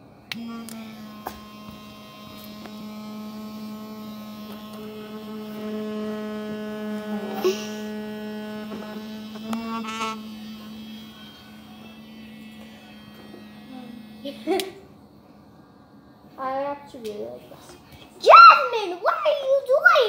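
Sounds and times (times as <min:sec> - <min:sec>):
electric toothbrush humming: 0:00.0 - 0:16.9.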